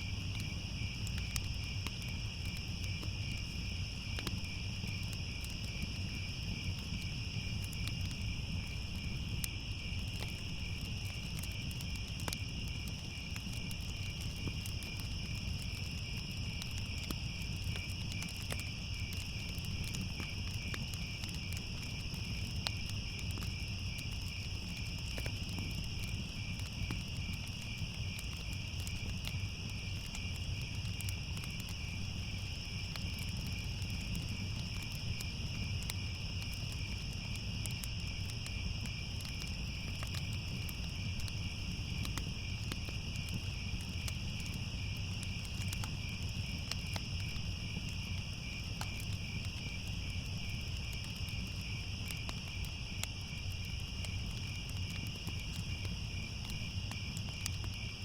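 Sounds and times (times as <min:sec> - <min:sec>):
crickets chirping: 0:00.0 - 0:58.0
wood fire crackling: 0:00.0 - 0:58.0.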